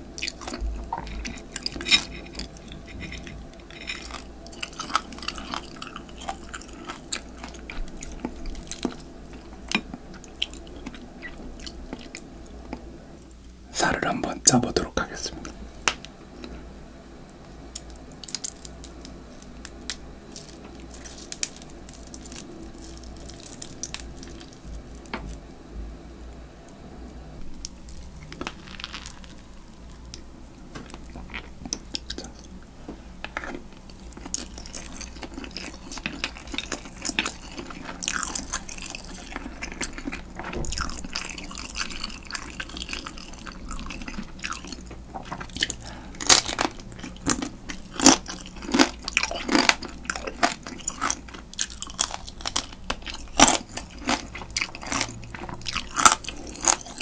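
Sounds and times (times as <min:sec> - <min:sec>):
chewing and crunching crab shells: 0:00.0 - 0:12.9, 0:17.2 - 0:26.0, 0:26.7 - 0:57.0.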